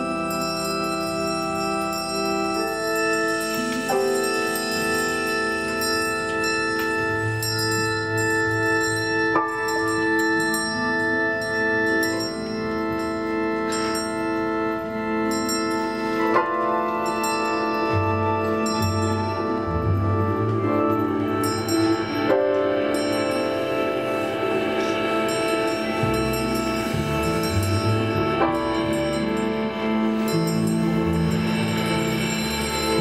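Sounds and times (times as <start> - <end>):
orchestral ensemble playing: 0.0 - 33.0.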